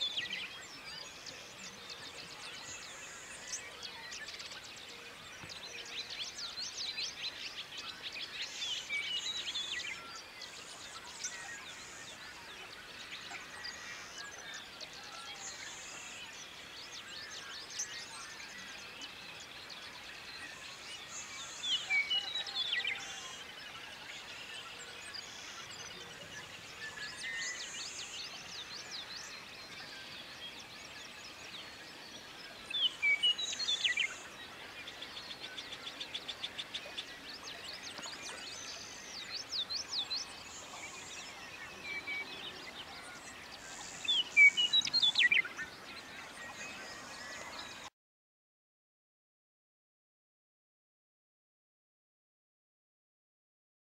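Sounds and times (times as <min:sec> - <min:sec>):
bird song phrase: 0:00.0 - 0:47.9
birds chirping and trilling: 0:00.0 - 0:47.9.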